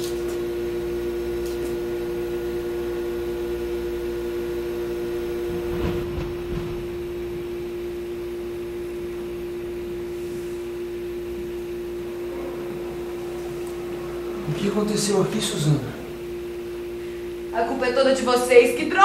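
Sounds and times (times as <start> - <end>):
steady humming drone: 0.0 - 19.0.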